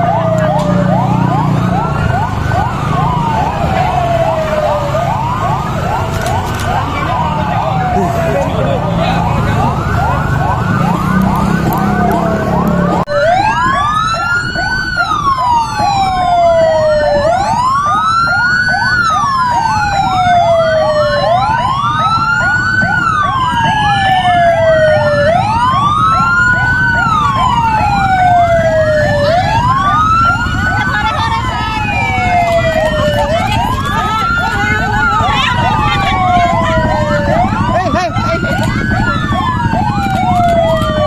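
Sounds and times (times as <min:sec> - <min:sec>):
electronic vehicle siren: 0:00.0 - 0:41.0.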